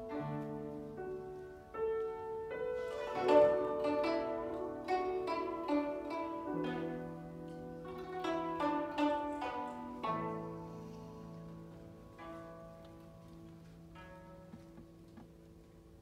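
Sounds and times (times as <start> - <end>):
plucked guzheng notes: 0.0 - 16.0.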